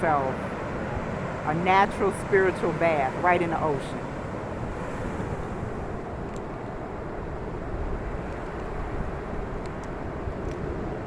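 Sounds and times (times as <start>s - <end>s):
ocean surf rushing: 0.0s - 11.0s
wind buffeting microphone: 0.0s - 11.0s.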